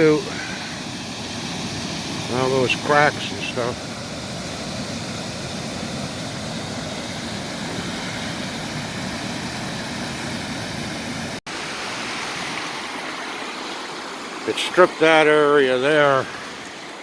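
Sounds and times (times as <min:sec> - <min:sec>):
water rushing over dam: 0:00.0 - 0:17.0.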